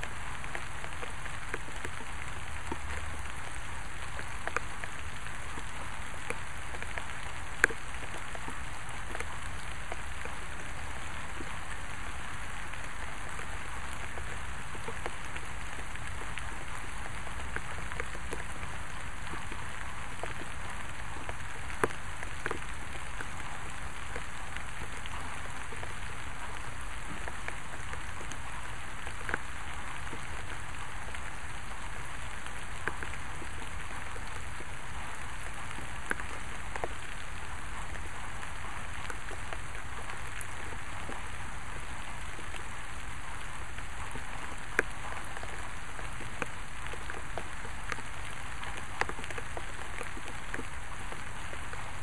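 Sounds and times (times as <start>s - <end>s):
steady rain: 0.0s - 52.0s.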